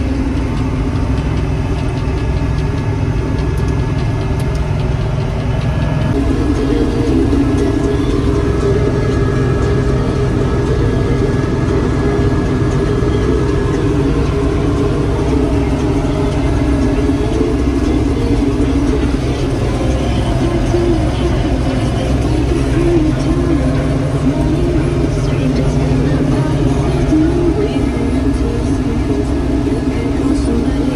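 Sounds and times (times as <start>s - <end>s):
combine harvester engine drone: 0.0s - 30.9s.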